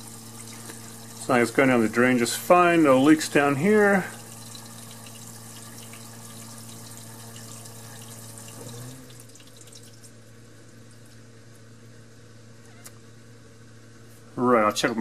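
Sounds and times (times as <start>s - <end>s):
drain pump humming: 0.0s - 12.8s.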